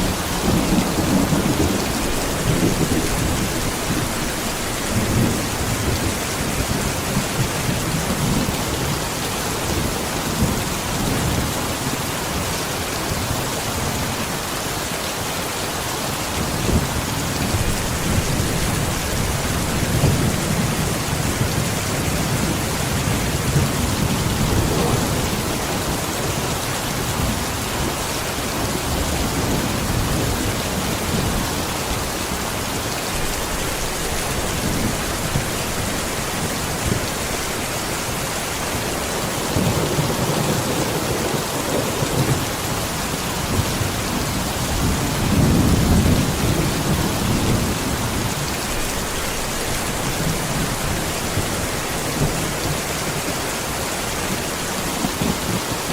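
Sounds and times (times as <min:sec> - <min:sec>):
heavy rain hissing: 0:00.0 - 0:55.9.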